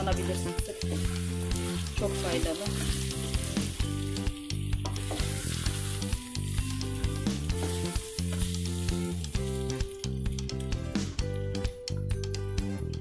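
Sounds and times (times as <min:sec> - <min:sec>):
food sizzling in oil: 0:00.0 - 0:11.2
background music with held notes: 0:00.0 - 0:13.0.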